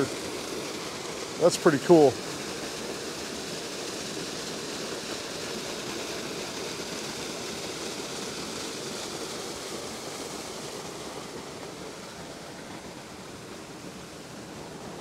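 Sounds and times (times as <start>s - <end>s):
water pouring into a pool: 0.0s - 15.0s.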